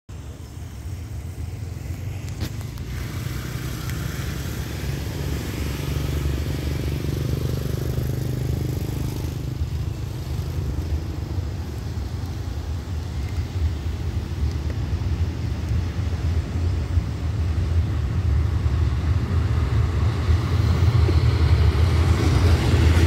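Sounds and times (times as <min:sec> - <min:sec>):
diesel locomotive engine drone: 0:00.1 - 0:23.0.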